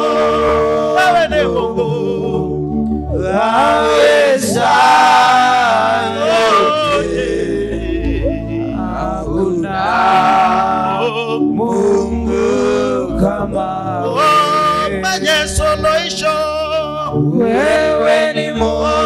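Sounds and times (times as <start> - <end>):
man singing into microphone: 0.0 - 2.6, 3.2 - 19.0
low musical accompaniment: 0.0 - 19.0.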